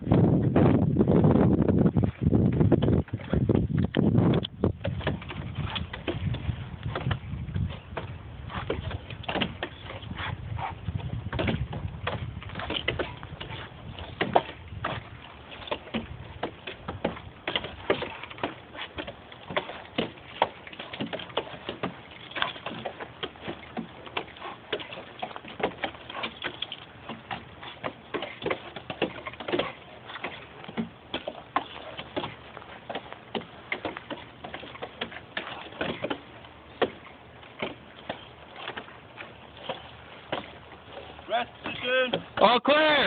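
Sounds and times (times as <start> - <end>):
climbing gaffs knocking into wood: 1.6 - 10.3, 10.9 - 42.6.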